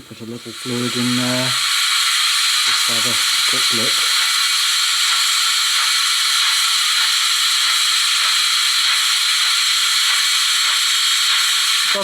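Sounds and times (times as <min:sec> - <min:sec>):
steam hiss from small speaker: 0:00.0 - 0:12.0.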